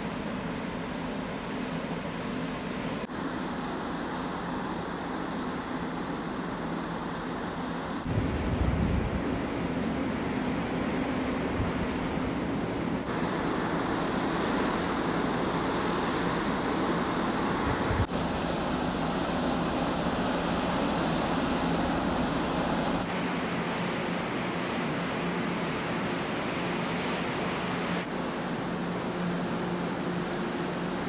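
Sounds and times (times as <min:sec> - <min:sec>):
ship engine hum: 0:00.0 - 0:31.0
wind and water rushing: 0:03.1 - 0:31.0.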